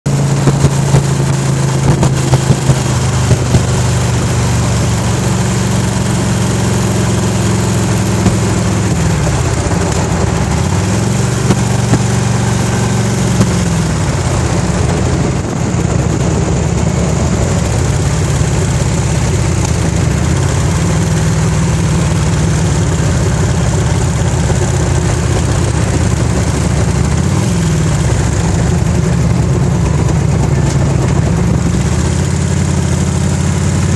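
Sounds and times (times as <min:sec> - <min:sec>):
motorcycle engine ticking: 0:00.1 - 0:33.9.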